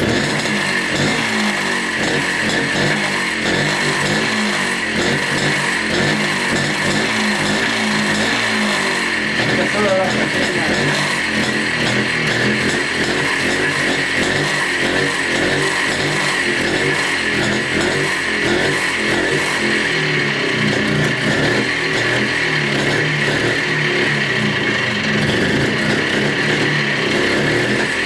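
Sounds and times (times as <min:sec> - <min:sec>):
motorcycle engine fast idle: 0:00.0 - 0:28.0.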